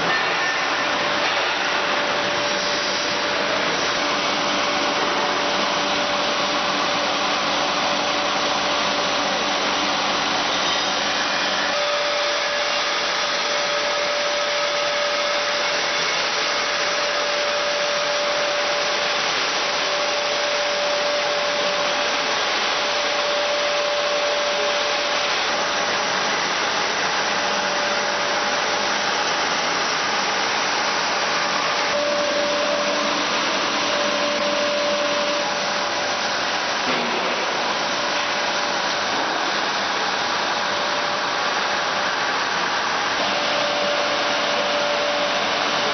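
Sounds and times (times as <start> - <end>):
thin steady whine: 0.0 - 45.9
woodworking machine whirring: 0.0 - 45.9.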